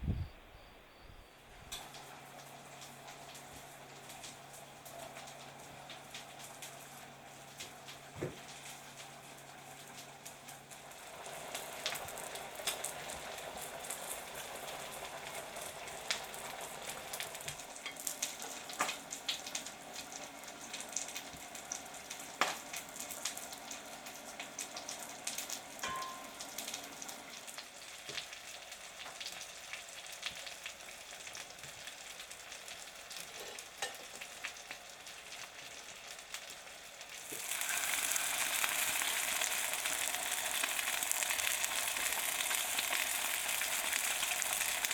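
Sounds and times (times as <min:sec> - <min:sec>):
food sizzling in a pan: 0:01.3 - 0:44.9.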